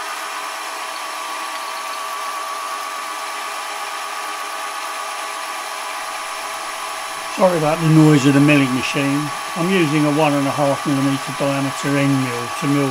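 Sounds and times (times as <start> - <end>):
milling machine whine: 0.0 - 12.9.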